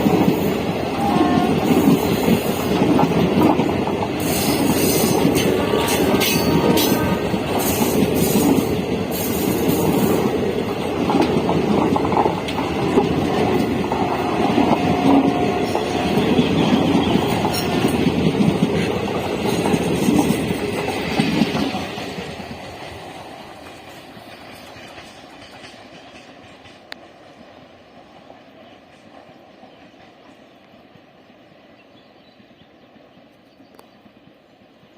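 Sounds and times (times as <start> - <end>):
train wheels clattering: 0.0 - 31.1.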